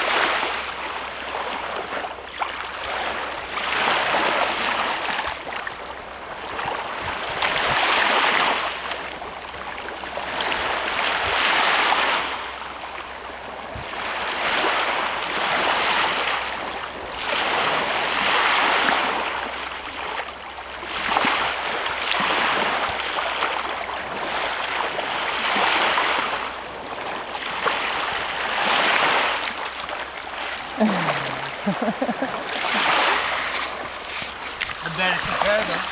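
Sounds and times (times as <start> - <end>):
waves washing up a beach: 0.0 - 35.9.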